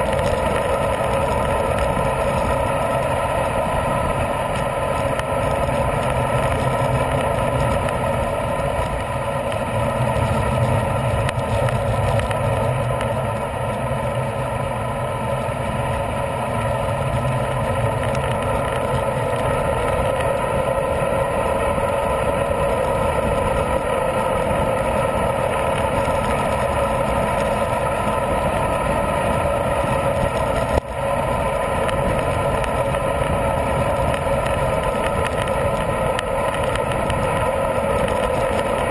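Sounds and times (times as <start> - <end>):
bicycle tyre noise: 0.0 - 38.9
wind rushing over microphone: 0.0 - 38.9.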